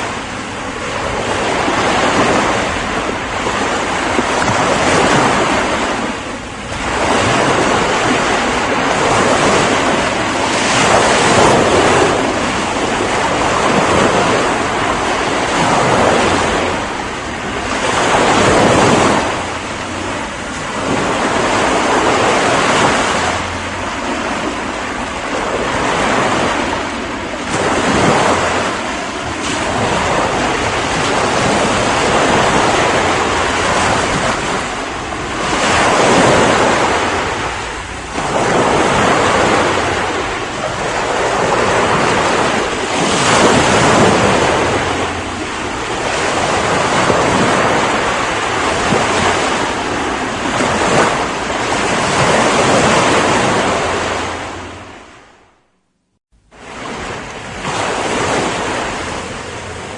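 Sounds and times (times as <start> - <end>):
ocean waves breaking: 0.0 - 55.7, 56.4 - 59.9
wind: 0.0 - 59.9.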